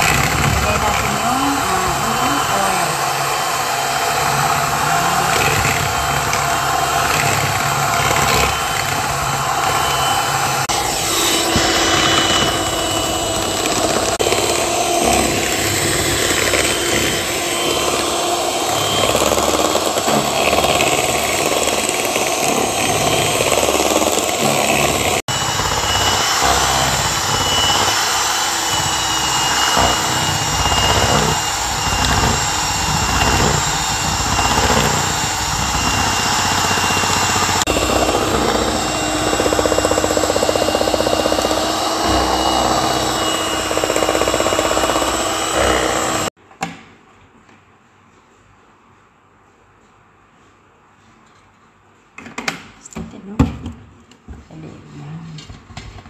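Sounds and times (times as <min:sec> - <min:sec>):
electric hand mixer whipping: 0:00.0 - 0:46.4.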